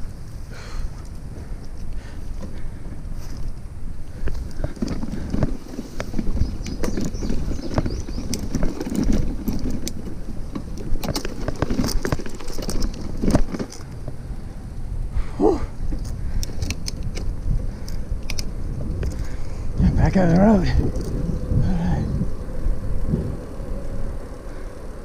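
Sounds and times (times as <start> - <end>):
bicycle clicks and rattles: 0.0 - 14.9, 15.8 - 25.0
bicycle tyres rumbling on trail: 0.0 - 25.0
wind on microphone: 0.0 - 25.0.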